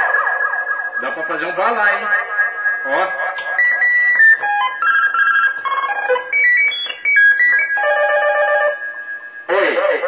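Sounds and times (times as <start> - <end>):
electronic beep melody: 0.0 - 9.5.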